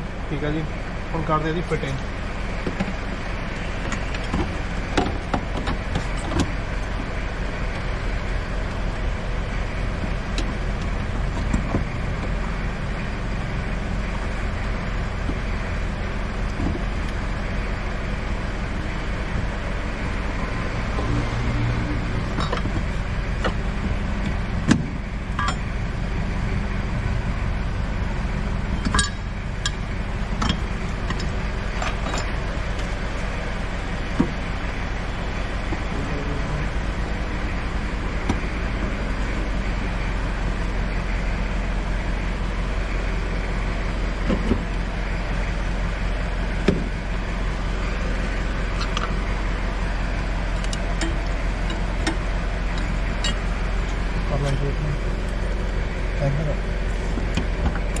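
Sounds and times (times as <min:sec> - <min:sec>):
background vehicle noise: 0:00.0 - 0:58.0.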